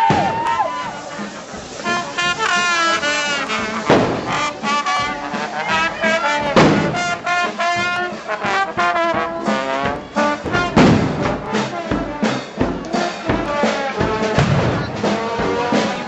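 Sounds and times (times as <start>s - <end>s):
brass band playing: 0.0s - 16.0s
heavy drum strikes: 0.0s - 16.0s.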